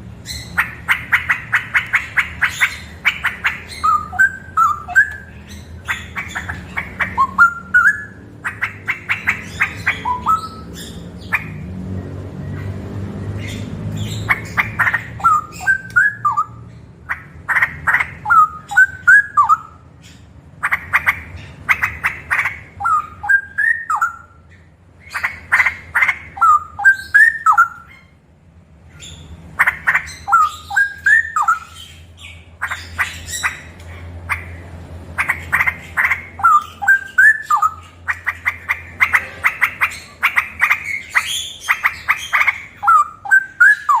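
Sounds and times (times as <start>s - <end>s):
bird singing loudly: 0.1s - 11.7s, 13.4s - 28.2s, 28.9s - 44.0s.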